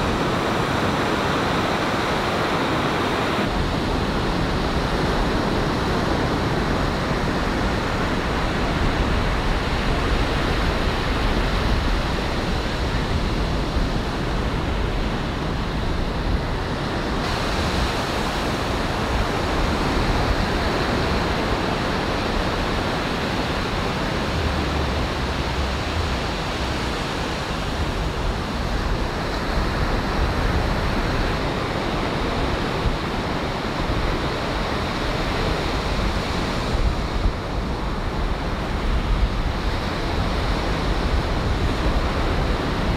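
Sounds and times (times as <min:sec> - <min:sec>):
surf breaking on beach: 0:00.0 - 0:42.9
wind on microphone: 0:00.0 - 0:42.9.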